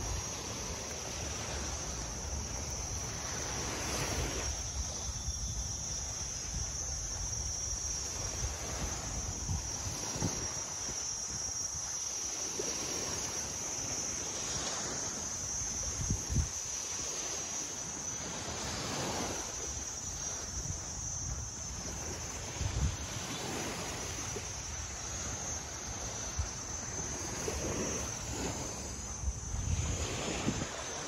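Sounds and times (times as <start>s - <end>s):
insect buzzing: 0.0s - 31.0s
wind rumble on microphone: 0.0s - 31.0s.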